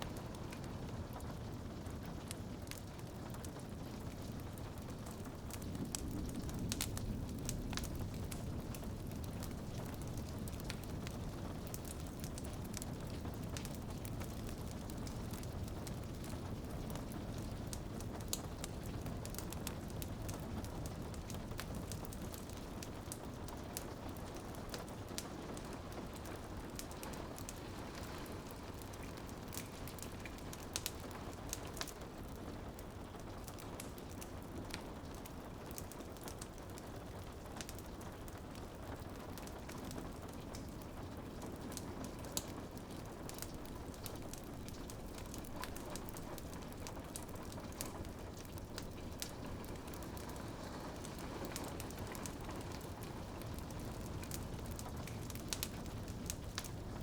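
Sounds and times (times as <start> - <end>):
rain pattering on window: 0.0 - 57.0
wood fire crackling: 0.0 - 57.0.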